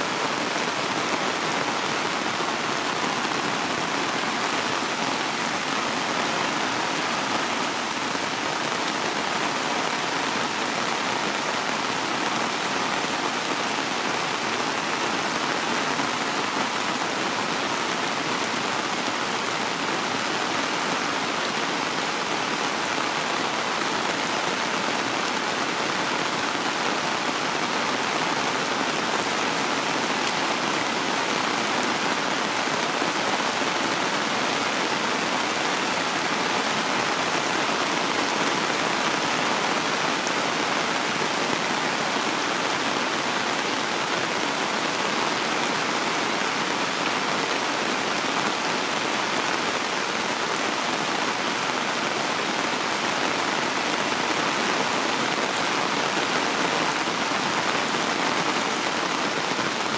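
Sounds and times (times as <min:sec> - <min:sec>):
heavy rain on concrete: 0:00.0 - 0:59.9.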